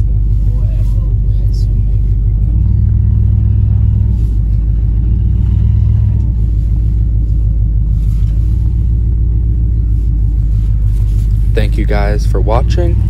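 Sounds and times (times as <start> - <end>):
car engine running from inside: 0.0 - 13.0.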